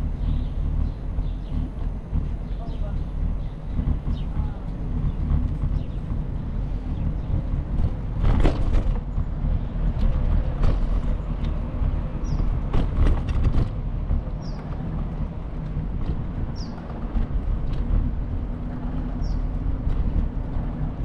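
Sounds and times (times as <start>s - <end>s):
bicycle rattles and knocks: 0.0s - 21.0s
wind rumbling on microphone: 0.0s - 21.0s.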